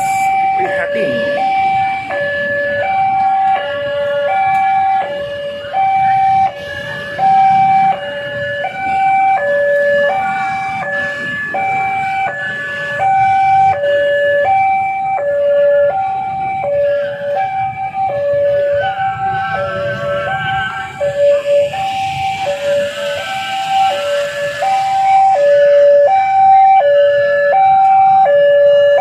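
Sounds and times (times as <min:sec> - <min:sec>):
level crossing two-tone alarm: 0:00.0 - 0:29.0
road traffic: 0:00.0 - 0:29.0.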